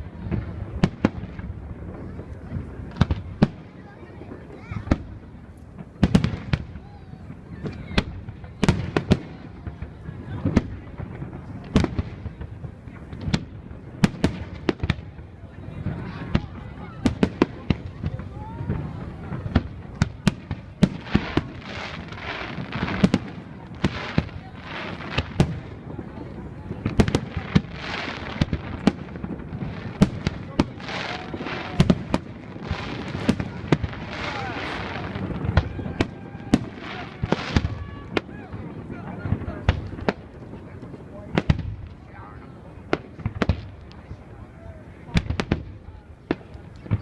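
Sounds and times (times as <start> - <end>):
fireworks bangs: 0.0 - 47.0
fireworks crackling hiss: 0.0 - 47.0.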